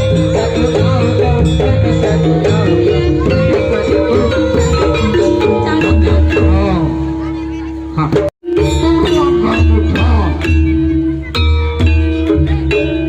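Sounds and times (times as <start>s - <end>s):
gamelan music: 0.0s - 13.0s
metallophone notes: 0.0s - 13.0s.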